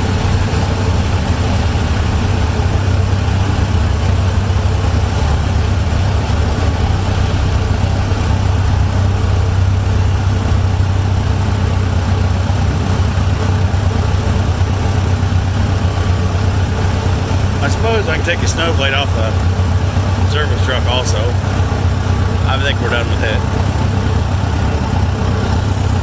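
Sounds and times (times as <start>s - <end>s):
vehicle engine running steadily: 0.0s - 26.0s.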